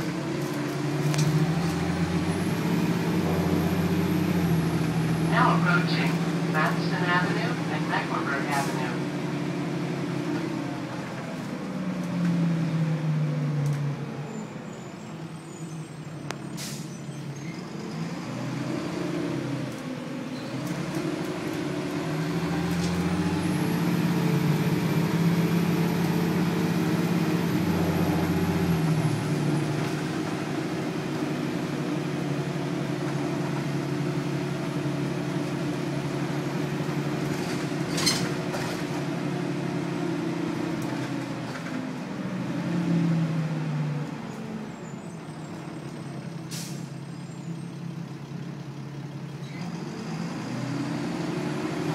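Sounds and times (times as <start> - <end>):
bus engine droning: 0.0 - 51.9.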